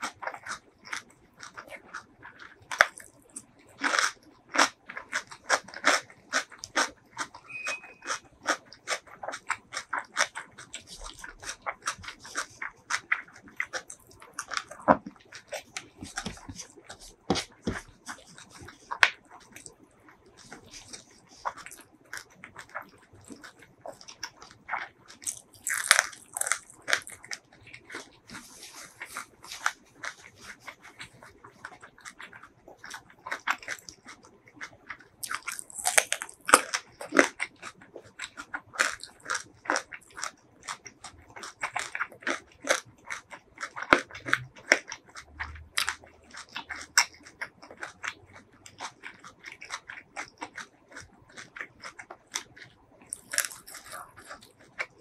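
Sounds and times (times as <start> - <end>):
crunchy bites: 0.0 - 55.0
wet chewing and mouth clicks: 0.0 - 55.0.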